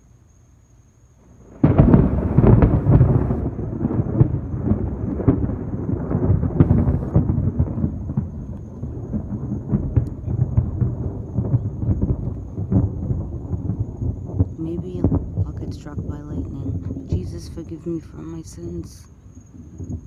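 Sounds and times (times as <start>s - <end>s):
thunder clap and rolling rumble: 1.4s - 17.8s, 19.3s - 20.0s.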